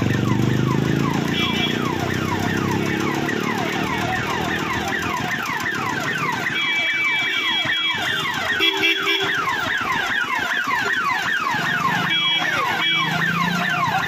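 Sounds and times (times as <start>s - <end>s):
electronic police siren: 0.0s - 14.0s.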